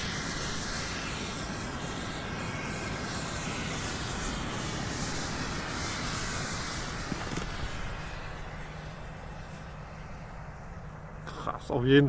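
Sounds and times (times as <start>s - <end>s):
flare burning with a hiss: 0.0s - 12.0s.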